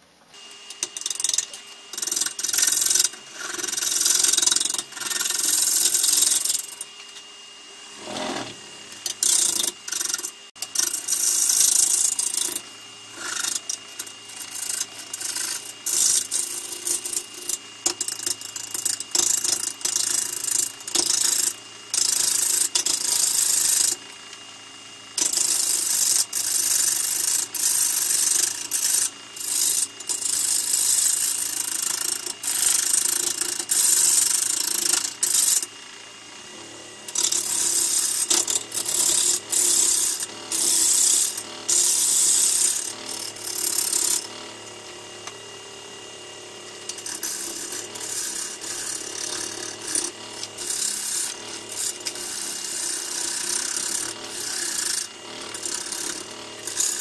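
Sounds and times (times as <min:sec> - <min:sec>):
gouge shearing wood on lathe: 0:00.4 - 0:07.0, 0:07.9 - 0:23.9, 0:25.2 - 0:44.6, 0:46.8 - 0:57.0
lathe motor hum: 0:00.4 - 0:57.0.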